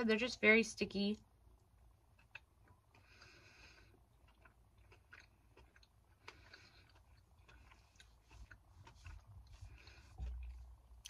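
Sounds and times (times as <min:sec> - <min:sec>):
person chewing gummy candy: 0:01.6 - 0:11.0.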